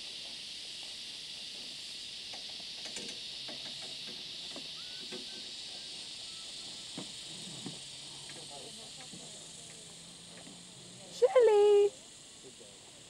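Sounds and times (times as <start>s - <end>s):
high-pitched insect drone: 0.0s - 12.7s.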